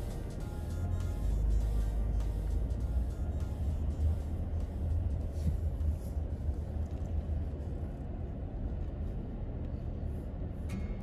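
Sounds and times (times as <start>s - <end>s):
car engine low rumble: 0.0s - 11.0s
road noise: 0.0s - 11.0s.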